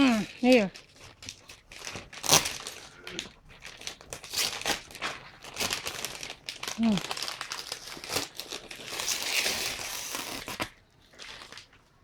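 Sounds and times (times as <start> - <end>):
wrapping paper crinkling and tearing: 0.0 - 12.0.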